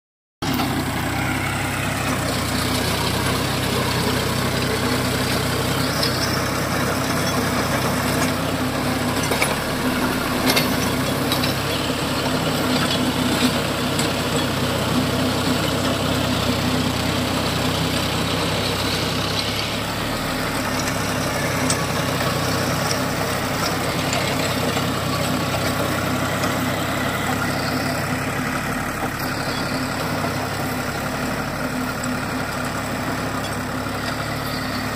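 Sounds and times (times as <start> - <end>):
rotavator churning soil: 0.4 - 34.9
tractor diesel engine running: 0.4 - 34.9.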